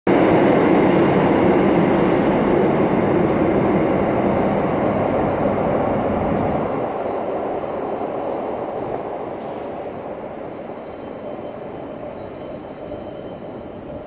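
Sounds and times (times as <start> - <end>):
train rail noise in tunnel: 0.1 - 14.0.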